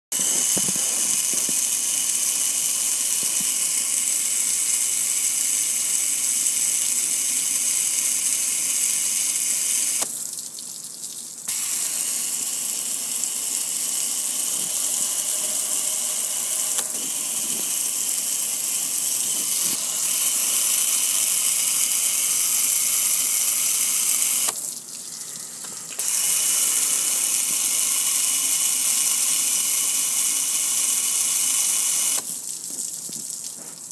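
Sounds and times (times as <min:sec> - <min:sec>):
hose water spraying on metal: 0:00.2 - 0:10.2, 0:11.5 - 0:33.9.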